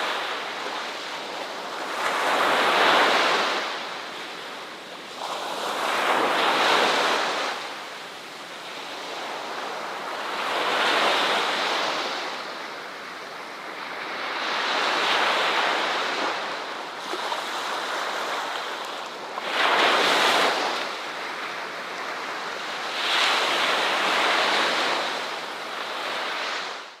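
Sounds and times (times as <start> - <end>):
ocean waves breaking on a beach: 0.0 - 27.0.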